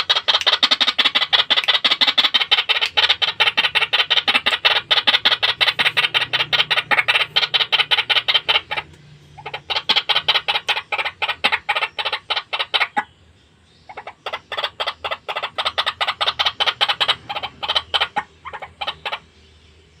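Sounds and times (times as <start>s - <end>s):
bird calling harsh repeated notes: 0.0s - 13.1s, 13.9s - 19.2s.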